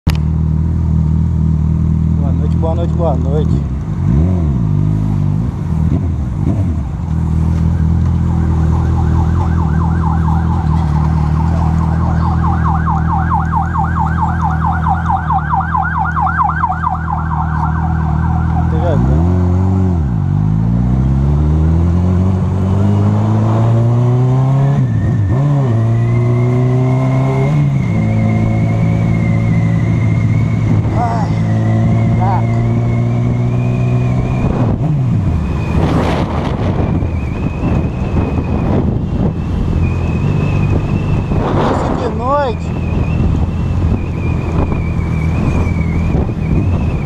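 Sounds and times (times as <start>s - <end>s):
motorcycle engine revving: 0.2s - 47.0s.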